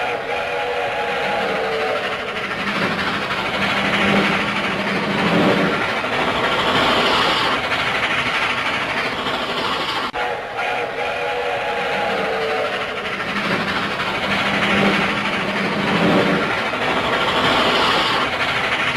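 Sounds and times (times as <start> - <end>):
cartoon train rattling rumble: 0.0 - 18.9.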